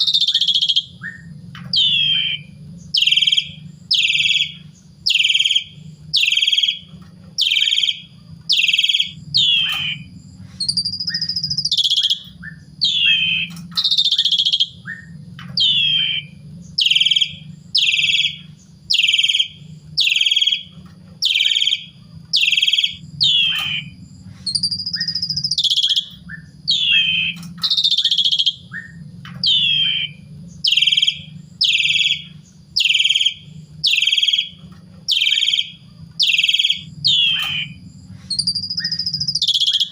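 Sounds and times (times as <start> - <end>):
bird chirping: 0.0 - 39.9
bird whistle: 0.0 - 39.9
steady low hum: 0.0 - 39.9.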